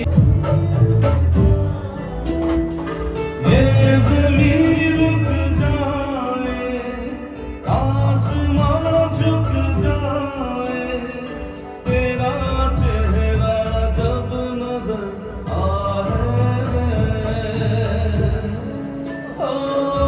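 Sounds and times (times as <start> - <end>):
person singing: 0.0 - 20.0
rhythmic beat: 0.0 - 20.0.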